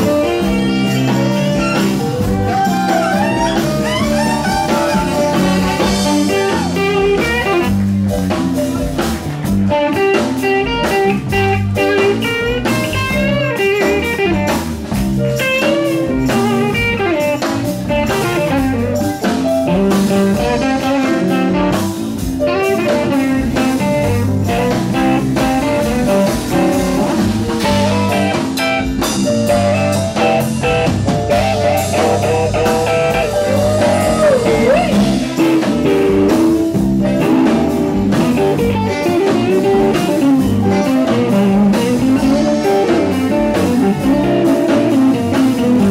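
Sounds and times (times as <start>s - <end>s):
drums: 0.0s - 45.9s
electric guitar lead with bending notes: 0.0s - 45.9s
live blues band playing: 0.0s - 45.9s.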